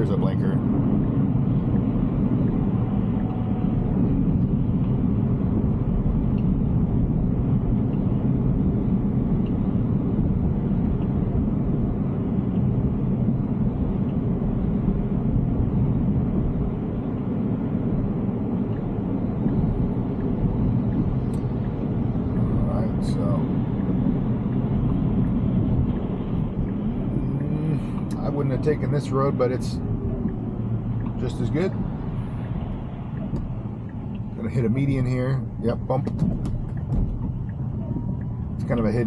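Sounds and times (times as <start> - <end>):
road and tyre rumble in cabin: 0.0 - 39.0.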